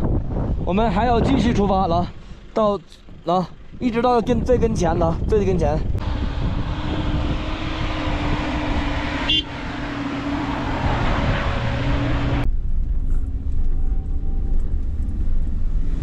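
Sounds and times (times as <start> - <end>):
wind on microphone: 0.0 - 2.0, 4.2 - 16.0
tyre and road noise: 0.0 - 16.0
vehicle engine hum: 0.0 - 16.0.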